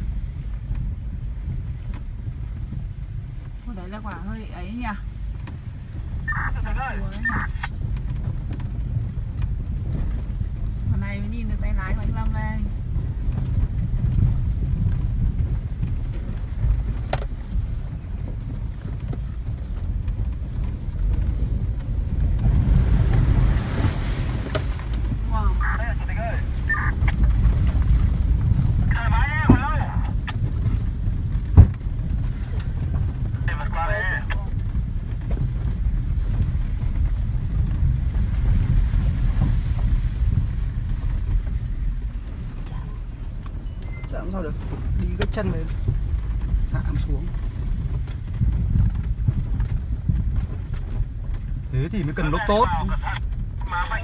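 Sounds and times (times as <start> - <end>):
vehicle rumbling over rough ground: 0.0 - 54.0.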